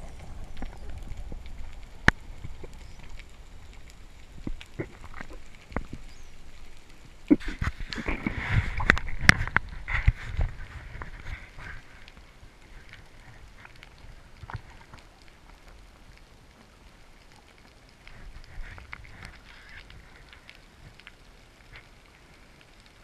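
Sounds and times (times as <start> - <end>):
underwater bubbling: 0.0 - 23.0
underwater crackling clicks: 0.0 - 23.0.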